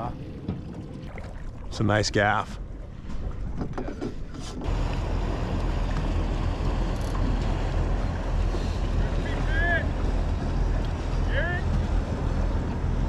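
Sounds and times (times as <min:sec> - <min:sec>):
water against boat hull: 0:00.0 - 0:13.0.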